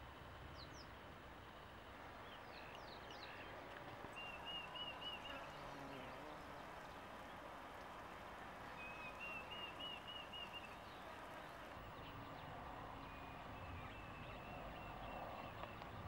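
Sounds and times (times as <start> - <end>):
honeybees humming: 0.1 - 16.0.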